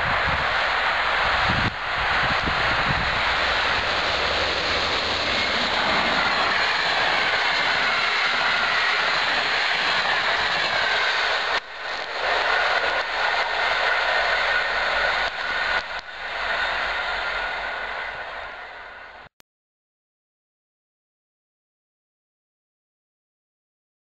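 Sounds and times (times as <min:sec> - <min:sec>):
train passing at speed: 0:00.0 - 0:19.3.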